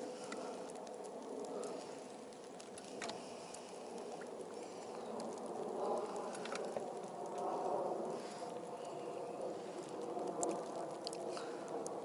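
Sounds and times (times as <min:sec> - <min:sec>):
wet snow pattering on rain gear: 0:00.0 - 0:12.0.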